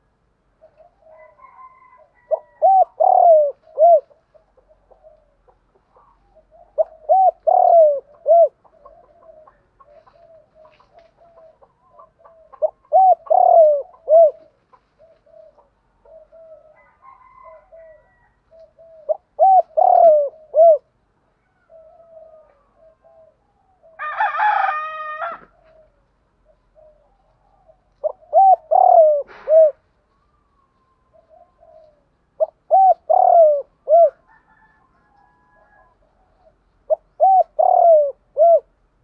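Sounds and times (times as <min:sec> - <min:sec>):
dove cooing: 0:00.0 - 0:38.8.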